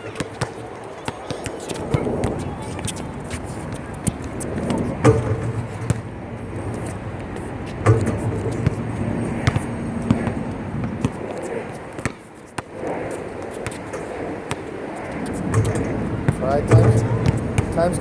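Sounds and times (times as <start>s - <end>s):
basketballs bouncing on court: 0.0s - 12.8s, 13.4s - 14.7s, 15.4s - 18.0s
steady background noise: 0.0s - 18.0s.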